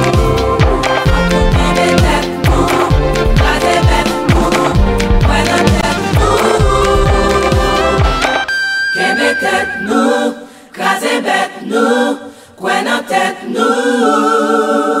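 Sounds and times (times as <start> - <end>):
voices chanting without instruments: 0.0 - 15.0.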